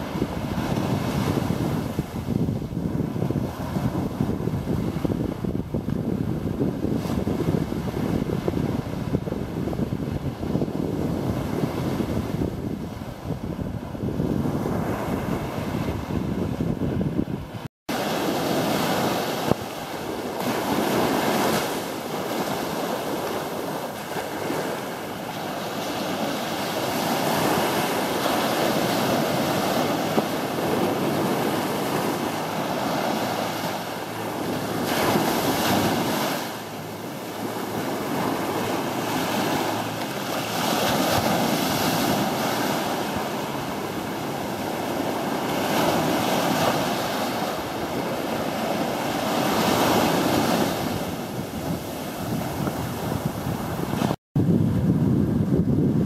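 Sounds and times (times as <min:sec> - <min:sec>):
ocean surf washing onto beach: 0:00.0 - 0:56.0
wind buffeting microphone: 0:00.0 - 0:56.0.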